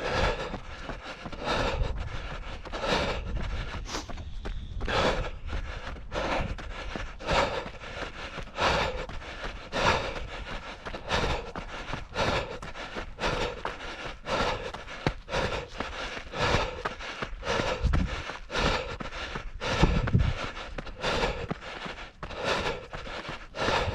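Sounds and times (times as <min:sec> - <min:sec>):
heavy breathing: 0:00.0 - 0:23.9.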